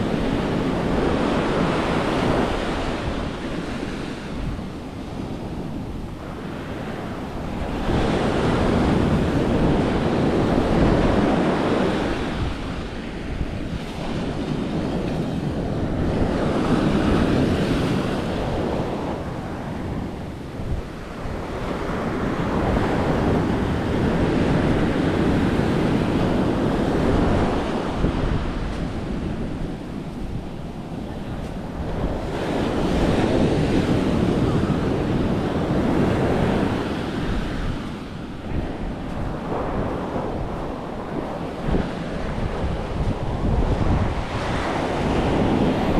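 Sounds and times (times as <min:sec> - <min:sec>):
surf breaking on a beach: 0:00.0 - 0:45.9.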